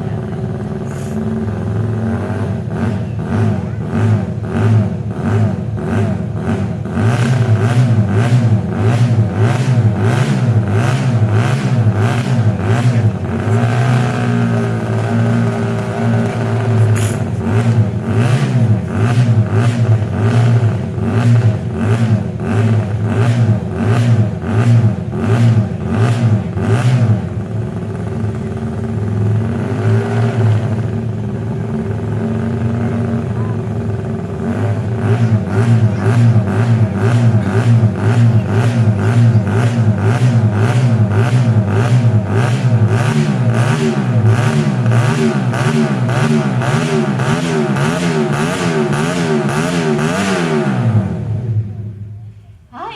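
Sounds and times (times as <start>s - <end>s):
racing motorcycle engine revving: 0.0s - 52.0s.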